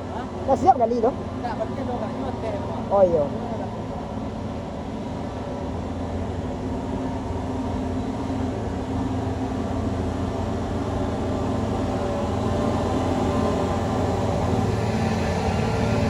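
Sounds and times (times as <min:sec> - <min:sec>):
heavy vehicle engine droning: 0:00.0 - 0:16.0.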